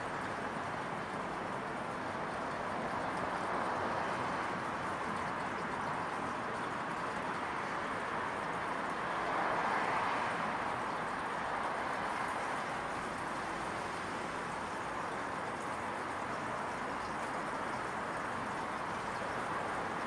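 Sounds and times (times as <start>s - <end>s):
distant traffic hum: 0.0s - 20.0s.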